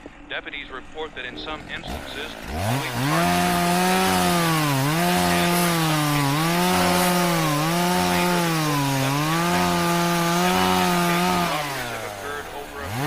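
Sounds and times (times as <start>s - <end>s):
chainsaw running at high revs: 1.4s - 13.0s.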